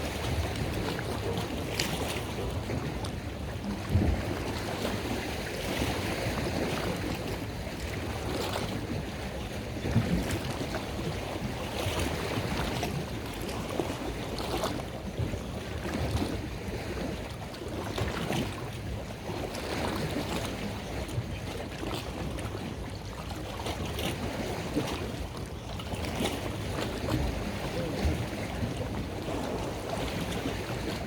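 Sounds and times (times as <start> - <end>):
open water washing: 0.0 - 31.0
wind on microphone: 0.0 - 31.0.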